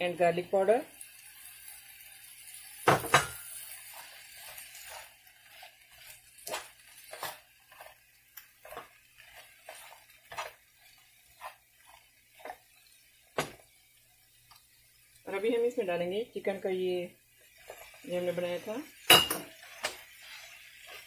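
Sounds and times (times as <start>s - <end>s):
faint sizzle: 0.0s - 21.0s
spatula scraping frying pan: 0.5s - 15.8s, 16.5s - 21.0s.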